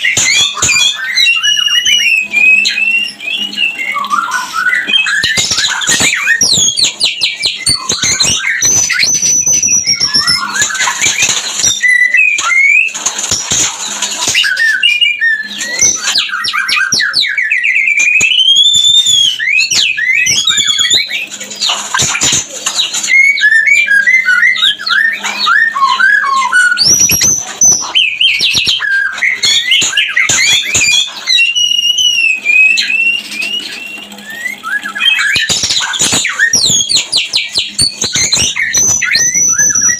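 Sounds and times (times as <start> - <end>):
bird singing whistles and trills: 0.0 - 13.6, 14.2 - 39.9.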